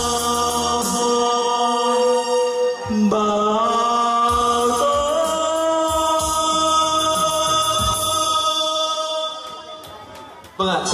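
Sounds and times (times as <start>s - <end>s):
backing track with bass beat: 0.0s - 1.4s, 2.8s - 10.9s
man singing into a microphone: 0.0s - 9.8s.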